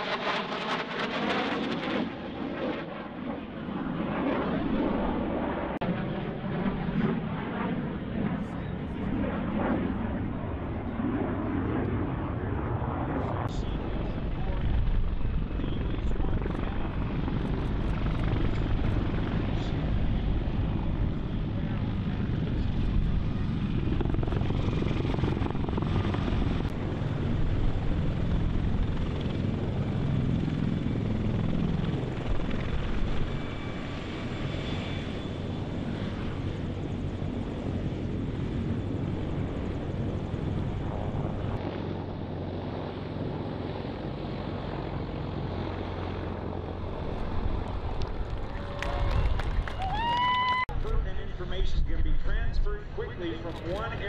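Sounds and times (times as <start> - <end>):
helicopter rotors and turbines: 0.0 - 54.0.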